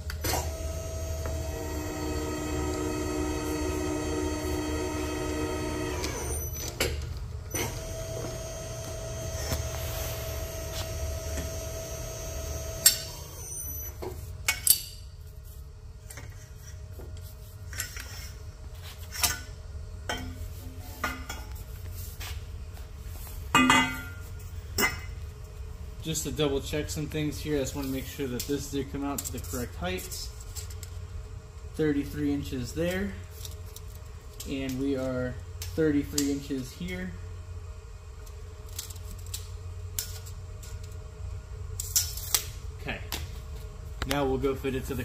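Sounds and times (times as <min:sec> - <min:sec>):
motor hum with a whine: 0:00.0 - 0:45.0.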